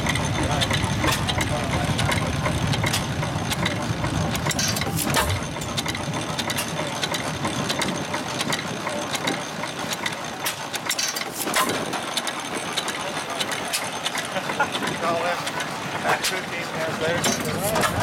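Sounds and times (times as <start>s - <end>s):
engine thumps: 0.0s - 18.0s
stationary engine clicking: 0.0s - 18.0s.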